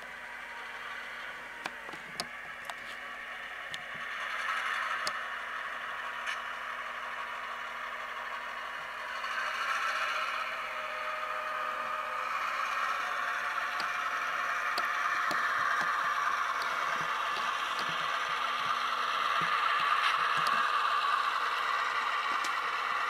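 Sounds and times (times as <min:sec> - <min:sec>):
diesel engine through small speaker: 0:00.0 - 0:23.0.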